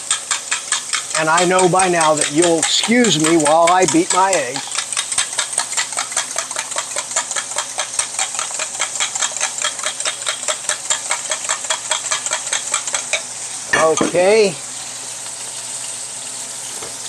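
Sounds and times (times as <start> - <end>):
eggs beaten in glass jug: 0.0 - 14.5
steak searing in a pan: 0.0 - 17.0.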